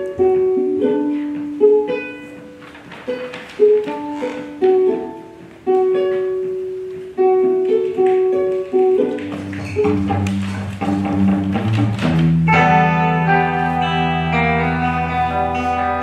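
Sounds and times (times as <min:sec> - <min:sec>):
plucked string instrument melody: 0:00.0 - 0:16.0.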